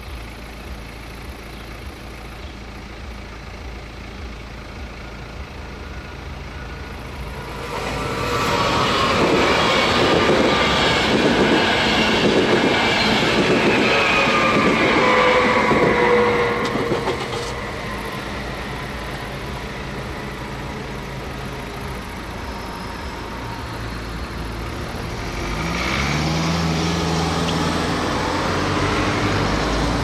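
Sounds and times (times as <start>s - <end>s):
car engines idling: 0.0s - 30.0s
electric train whine: 0.0s - 30.0s
engine rising in pitch: 0.7s - 30.0s.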